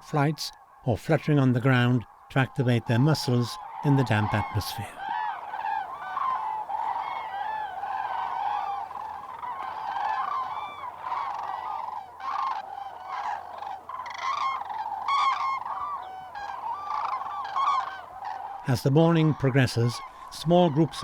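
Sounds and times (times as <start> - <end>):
cranes trumpeting calls: 2.2 - 21.0.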